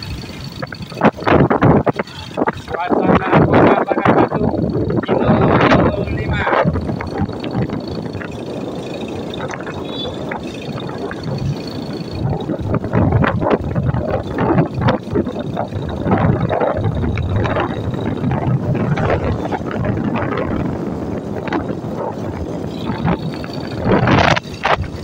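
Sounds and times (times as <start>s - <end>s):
vehicle engine and road noise: 0.0s - 25.0s
wind gusting on microphone: 0.0s - 25.0s.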